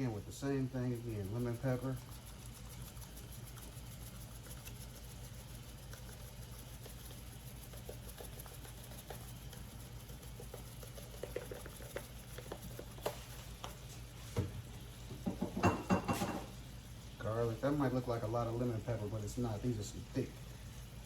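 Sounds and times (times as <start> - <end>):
seasoning pattering on chicken: 0.0 - 15.6, 16.2 - 21.0
steady low hum: 0.0 - 21.0.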